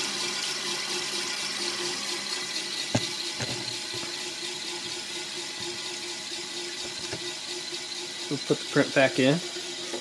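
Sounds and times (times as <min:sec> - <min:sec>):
wash station whirring: 0:00.0 - 0:10.0.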